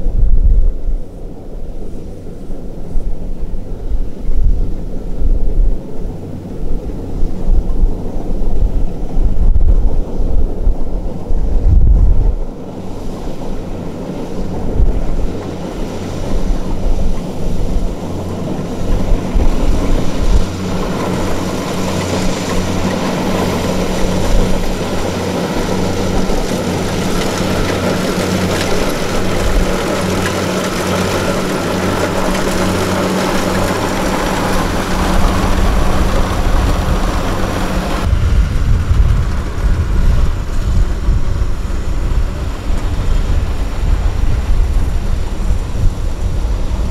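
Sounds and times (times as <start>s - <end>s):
heavy low rumble: 0.0s - 46.9s
wind buffeting microphone: 0.0s - 46.9s
tractor diesel engine running: 0.9s - 46.9s.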